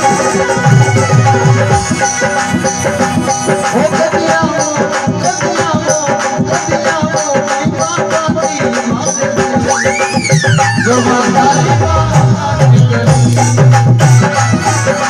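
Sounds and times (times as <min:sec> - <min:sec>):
hand drum and rattle rhythm: 0:00.0 - 0:15.0
held melodic instrument line: 0:00.0 - 0:15.0.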